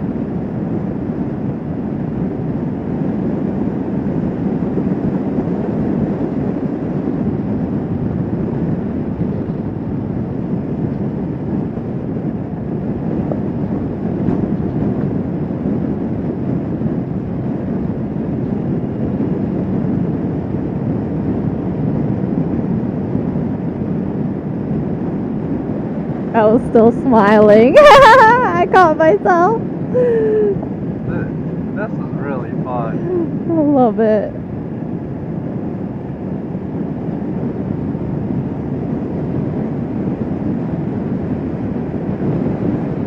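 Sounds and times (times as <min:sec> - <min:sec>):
motorcycle engine drone: 0:00.0 - 0:43.0
wind and road rush: 0:00.0 - 0:43.0.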